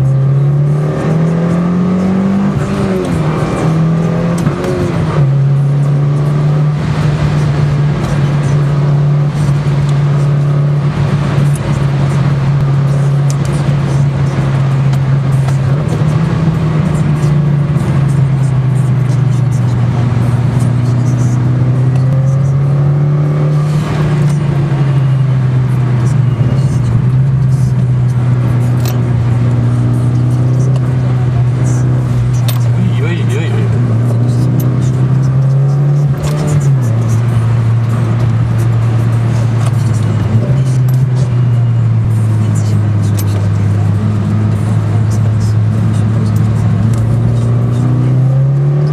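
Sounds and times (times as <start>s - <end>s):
car engine from inside cabin: 0.0s - 48.9s.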